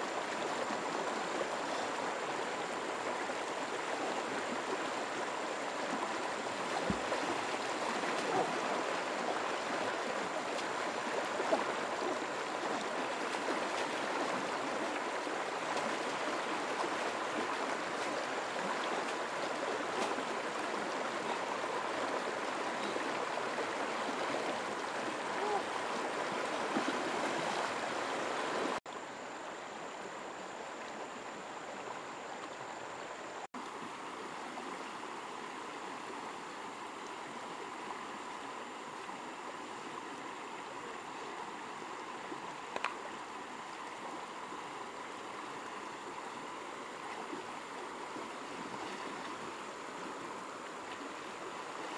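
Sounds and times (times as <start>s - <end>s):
river rushing over stones: 0.0s - 51.9s.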